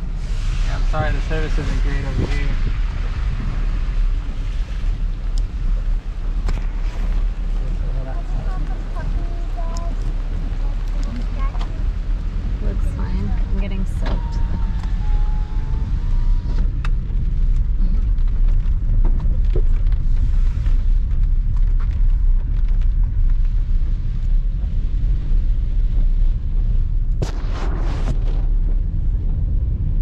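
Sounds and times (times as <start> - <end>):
car cabin road noise: 0.0 - 30.0
tyres on wet road: 0.0 - 30.0.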